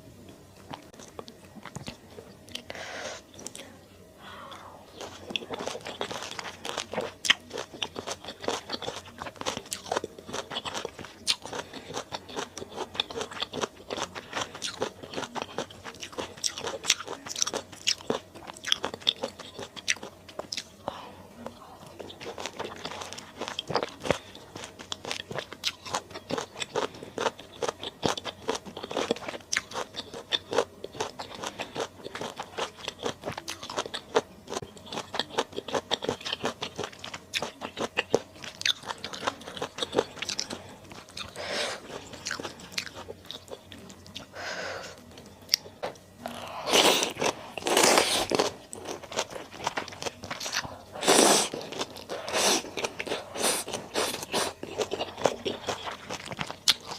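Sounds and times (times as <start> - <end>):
person chewing crunchily: 4.5 - 56.9.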